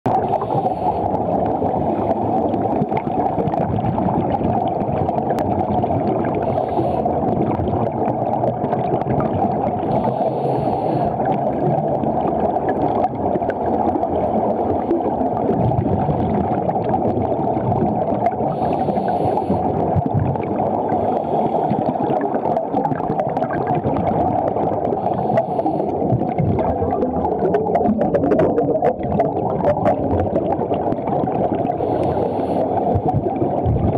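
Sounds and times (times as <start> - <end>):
muffled underwater rumble: 0.1 - 33.9
regulator bubbles hissing: 0.1 - 33.9.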